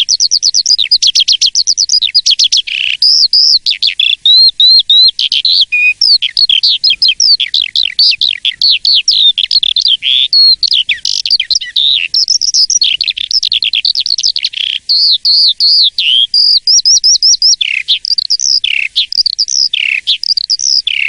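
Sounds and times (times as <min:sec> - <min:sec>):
starling singing whistles and chirps: 0:00.0 - 0:21.0.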